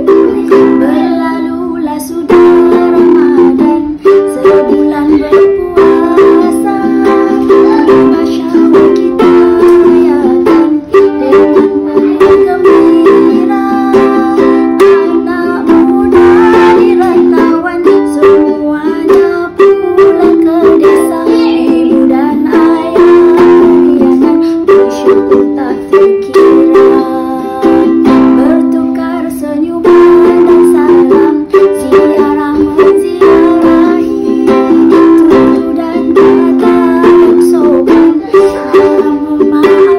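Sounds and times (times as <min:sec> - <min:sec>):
plucked string music: 0:00.0 - 0:39.9.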